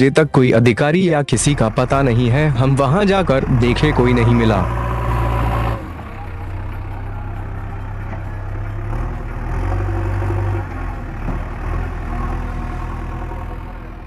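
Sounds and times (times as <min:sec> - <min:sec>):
diesel engine running: 0:01.3 - 0:14.0.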